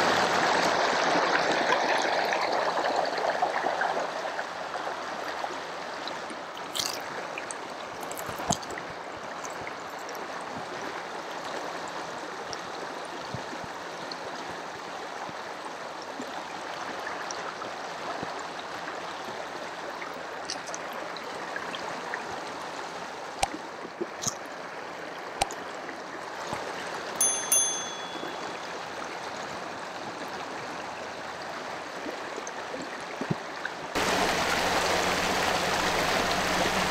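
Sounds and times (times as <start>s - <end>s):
stream flowing: 0.0s - 36.9s.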